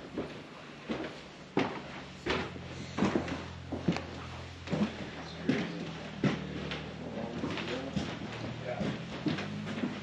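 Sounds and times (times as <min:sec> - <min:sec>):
footsteps on wooden boards: 0:00.0 - 0:10.0.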